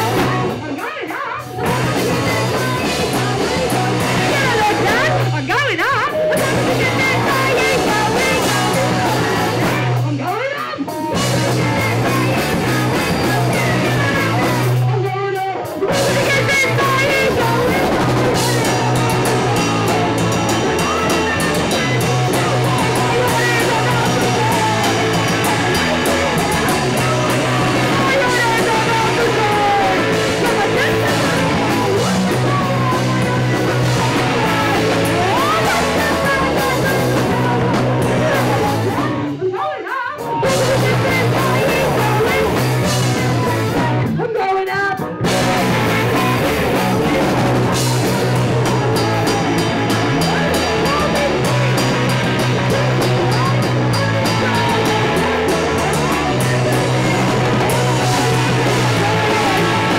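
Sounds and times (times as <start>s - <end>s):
rock band with singing: 0.0s - 59.9s.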